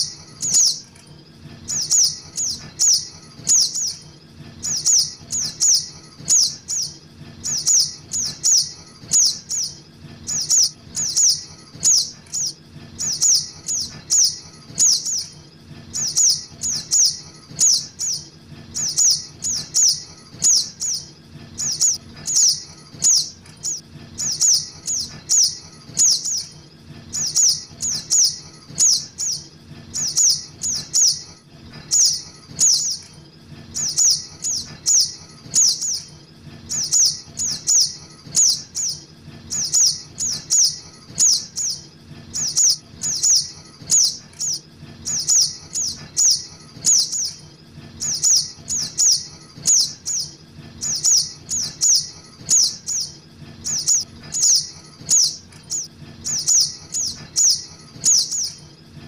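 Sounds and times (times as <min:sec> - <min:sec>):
high sharp bird chirps: 0:00.0 - 0:01.0, 0:01.6 - 0:04.0, 0:04.6 - 0:36.1, 0:36.7 - 0:47.4, 0:48.0 - 0:58.7
faint low hum: 0:00.0 - 0:59.0.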